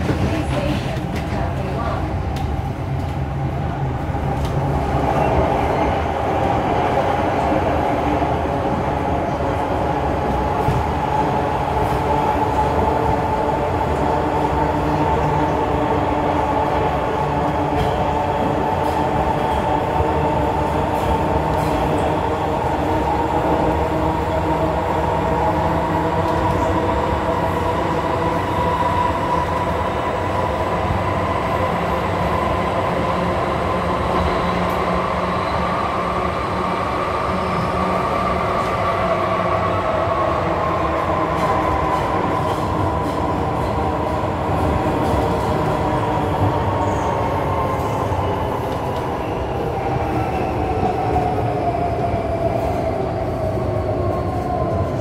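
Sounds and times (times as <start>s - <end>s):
train running at speed: 0.0s - 55.0s.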